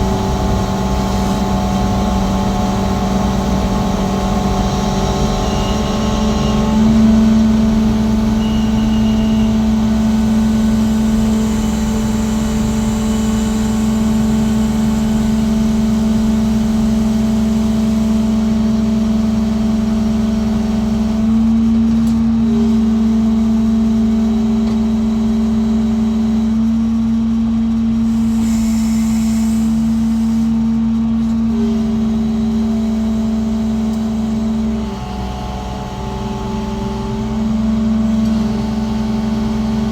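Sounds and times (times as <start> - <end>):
crane diesel engine droning: 0.0 - 26.8, 28.0 - 39.9.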